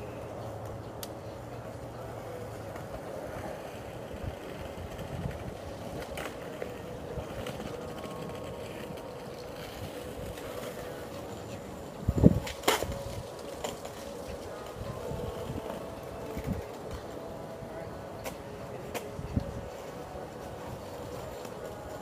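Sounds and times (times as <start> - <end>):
skateboard wheels rolling on paving: 0.0 - 22.0
skateboard clacks: 0.2 - 17.2, 18.0 - 22.0.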